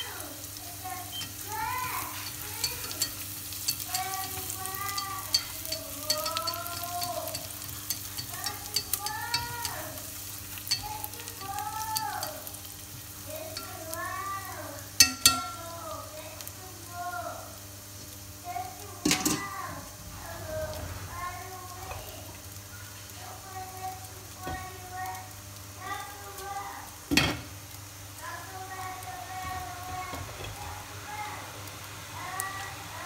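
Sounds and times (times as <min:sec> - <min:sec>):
garlic sizzling in a pot: 0:00.0 - 0:33.0.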